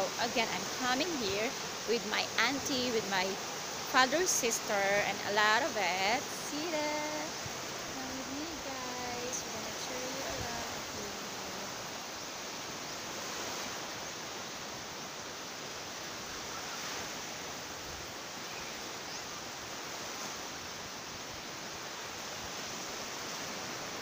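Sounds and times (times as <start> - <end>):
small waves breaking on beach: 0.0 - 24.0.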